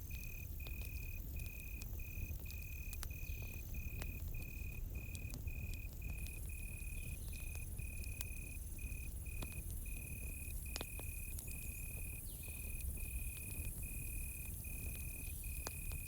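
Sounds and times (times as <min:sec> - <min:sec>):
campfire crackling and popping: 0:00.0 - 0:16.0
cricket chirping: 0:00.0 - 0:16.0.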